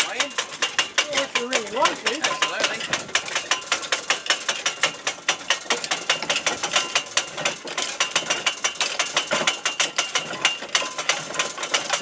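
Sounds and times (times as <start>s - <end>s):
anchor chain windlass clicking: 0.0s - 12.0s.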